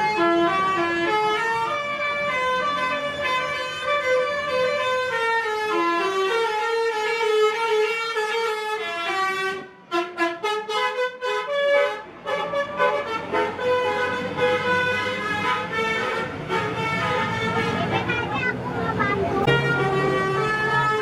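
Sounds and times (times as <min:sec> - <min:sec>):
bus musical horn playing a tune: 0:00.0 - 0:21.0.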